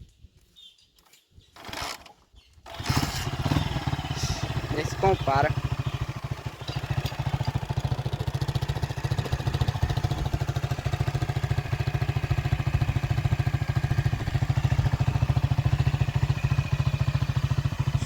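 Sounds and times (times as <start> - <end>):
motorcycle engine idling: 2.7 - 18.0.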